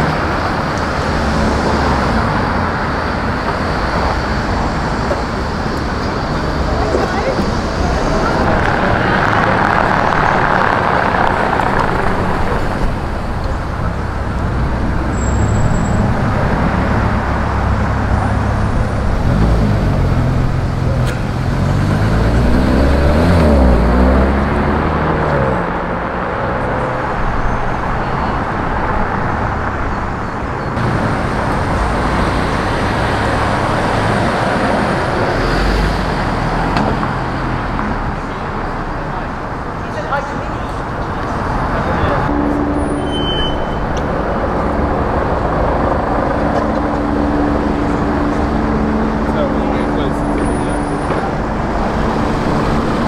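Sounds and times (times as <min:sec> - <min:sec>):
car engine passing close: 0:00.0 - 0:53.0
cars driving past: 0:00.0 - 0:53.0.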